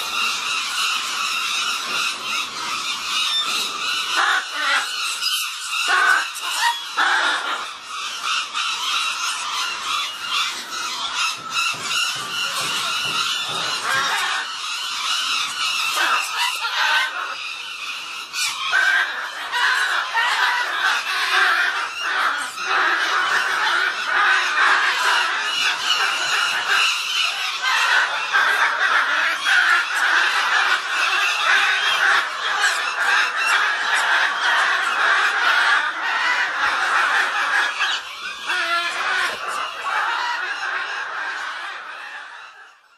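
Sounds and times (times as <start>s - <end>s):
cockatoos screeching: 0.0s - 42.9s.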